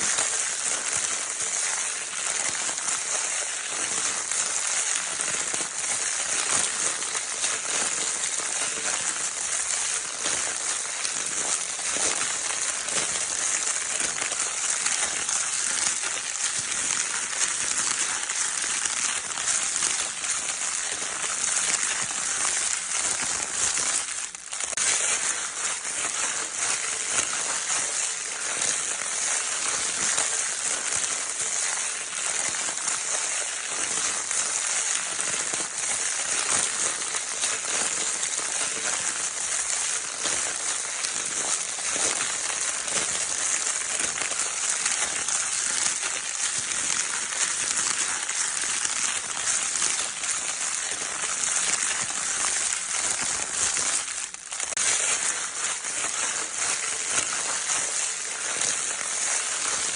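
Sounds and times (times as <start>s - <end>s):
crinkle paper rustling: 0.0s - 59.9s.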